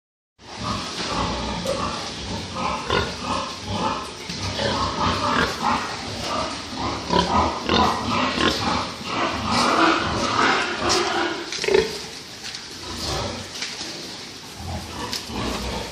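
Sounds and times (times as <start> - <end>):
pigs grunting and squealing: 0.4 - 12.2, 12.8 - 13.7, 14.6 - 15.9.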